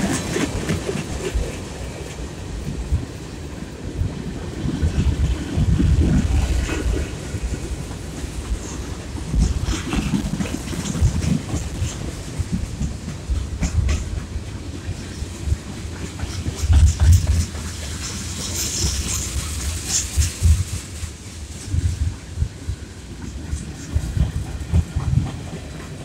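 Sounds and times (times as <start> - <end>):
train wheels rumbling on rail: 0.0 - 26.0
wheels clacking over rail joints: 0.0 - 26.0.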